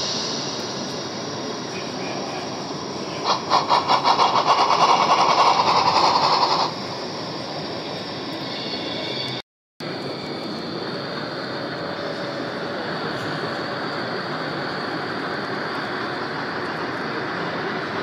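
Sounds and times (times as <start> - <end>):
rhythmic steam chuffing: 0.0 - 18.0.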